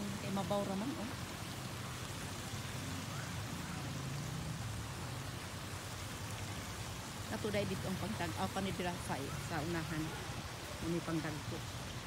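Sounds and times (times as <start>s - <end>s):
pool water rushing: 0.0s - 12.0s.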